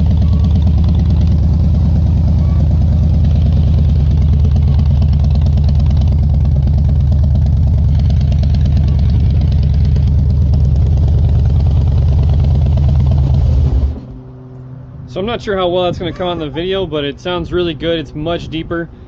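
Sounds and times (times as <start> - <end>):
motorcycle engine idling: 0.0 - 17.3.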